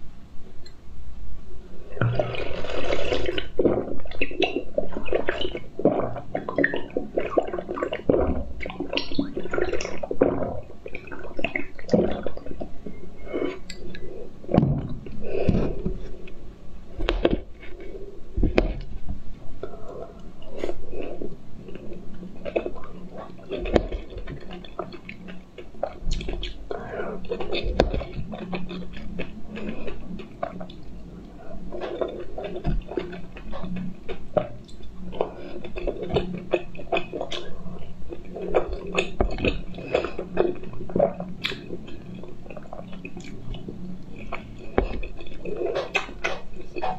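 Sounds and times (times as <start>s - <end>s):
slurping and gulping drink: 2.0s - 14.1s, 19.6s - 46.9s.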